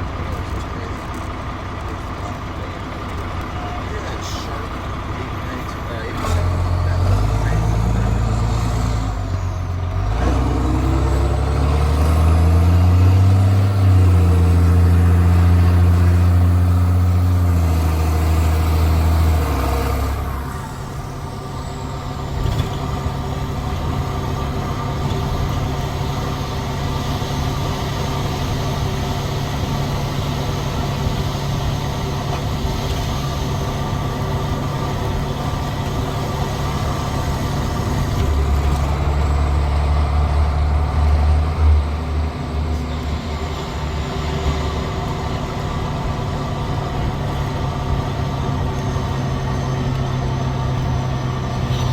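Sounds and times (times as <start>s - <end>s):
diesel bus engine revving: 0.0s - 51.9s.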